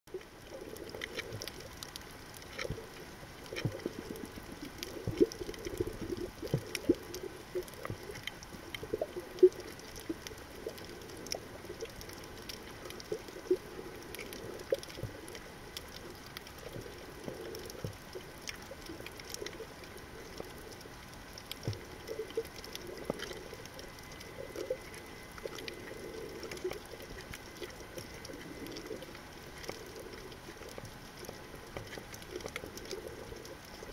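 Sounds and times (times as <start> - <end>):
muffled underwater water rush: 0.1 - 33.9
reef clicks and crackles: 0.1 - 33.9.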